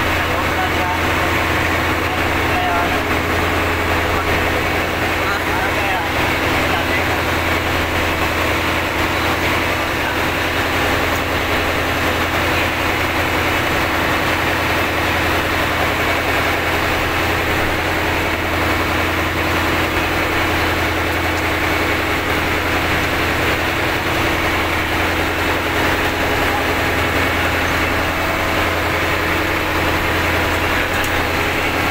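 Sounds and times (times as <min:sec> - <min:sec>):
boat engine droning: 0:00.0 - 0:31.9.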